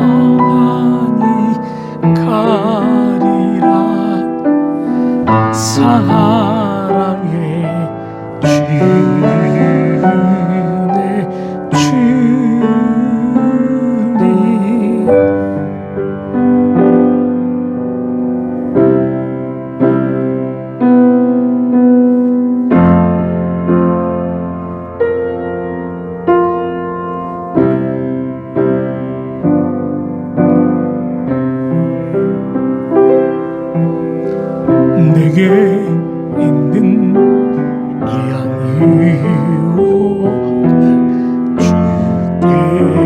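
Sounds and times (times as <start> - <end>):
piano playing hymn accompaniment: 0.0 - 43.0.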